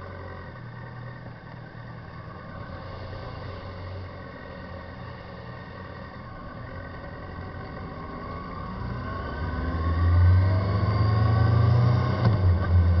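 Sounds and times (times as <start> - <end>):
front wheel noise: 0.0 - 13.0
low hum: 0.0 - 13.0
motorcycle whine rising in pitch: 0.0 - 13.0.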